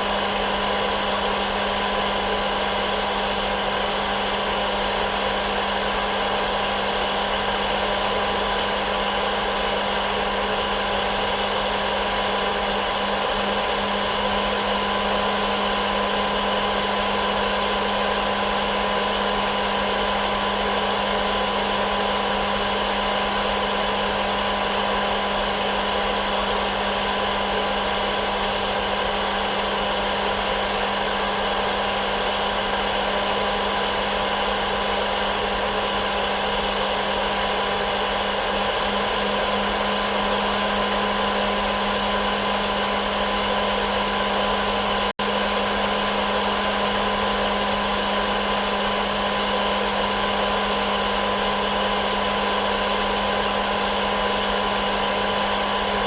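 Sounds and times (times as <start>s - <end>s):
hair dryer blowing: 0.0s - 56.0s
hair dryer whining tones: 0.0s - 56.0s.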